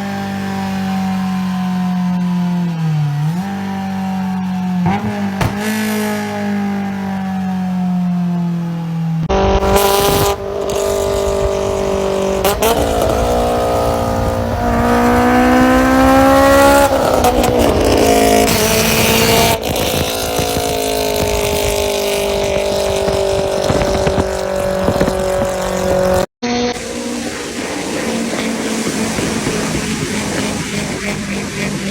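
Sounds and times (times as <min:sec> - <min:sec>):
car engine revving high: 0:00.0 - 0:31.9.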